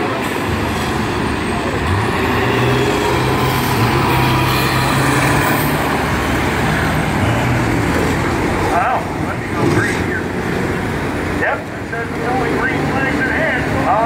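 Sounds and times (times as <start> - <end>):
bus engines racing: 0.0 - 14.0.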